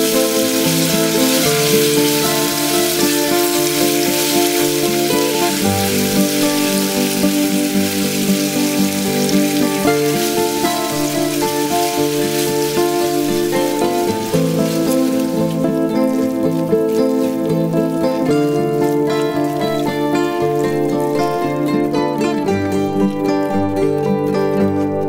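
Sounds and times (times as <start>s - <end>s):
sugar sizzling in a pan: 0.0s - 22.5s
slow melodic background music: 0.0s - 25.0s.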